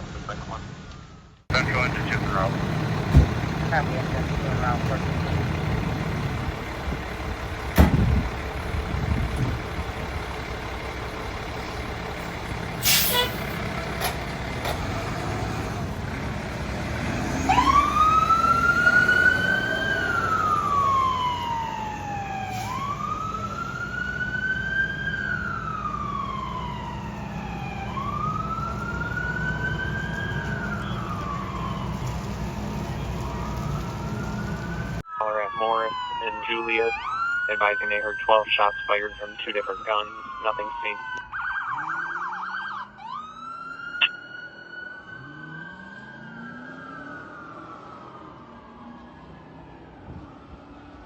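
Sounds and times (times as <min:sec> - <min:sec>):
truck engine rumbling: 0:00.0 - 0:48.9
fire engine siren wailing: 0:00.0 - 0:51.0.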